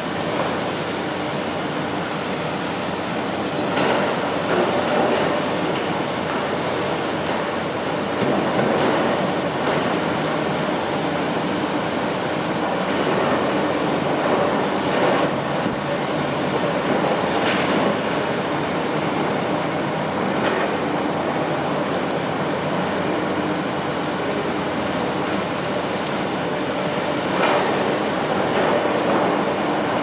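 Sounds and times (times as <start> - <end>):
construction machinery rumbling: 0.0 - 30.0.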